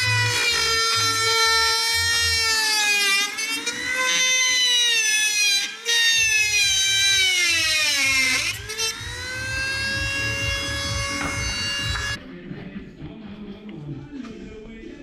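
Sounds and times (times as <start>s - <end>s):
power tool high whine: 0.0s - 12.2s.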